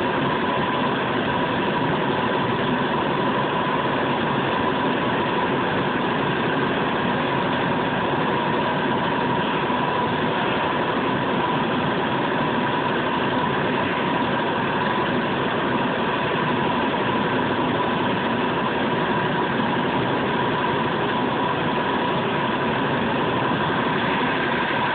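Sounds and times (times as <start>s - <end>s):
furnace burner and blower rushing: 0.0s - 24.9s.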